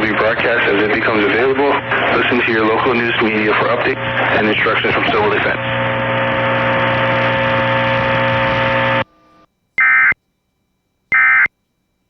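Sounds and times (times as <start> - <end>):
steady buzzing with tones: 0.0 - 12.0.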